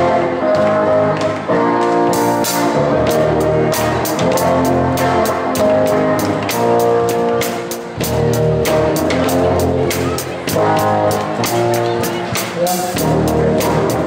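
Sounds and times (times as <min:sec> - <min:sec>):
bass guitar: 0:00.0 - 0:14.0
drum kit beat: 0:00.0 - 0:14.0
electric guitar chords: 0:00.0 - 0:14.0.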